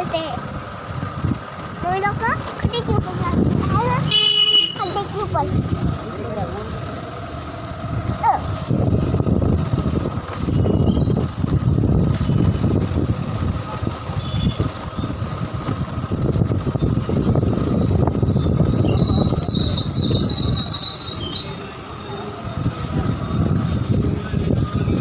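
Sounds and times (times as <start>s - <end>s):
wind buffeting microphone: 0.0s - 21.4s, 22.4s - 25.0s
vehicle rumble on road: 0.0s - 25.0s.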